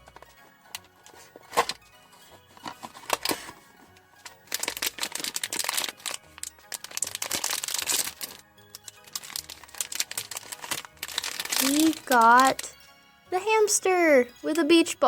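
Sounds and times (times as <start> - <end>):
plastic packaging crinkling: 0.0 - 12.8
soft background music: 0.0 - 15.0.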